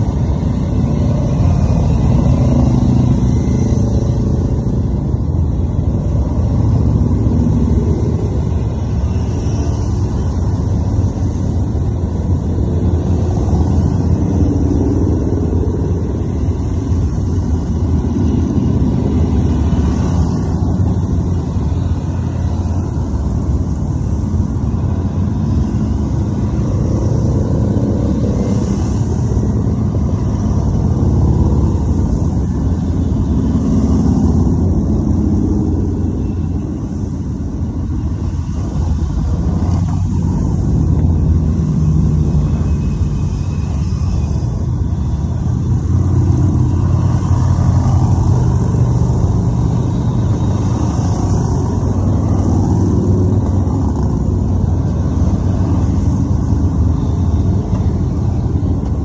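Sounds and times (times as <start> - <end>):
motorcycles passing: 0.0 - 59.0.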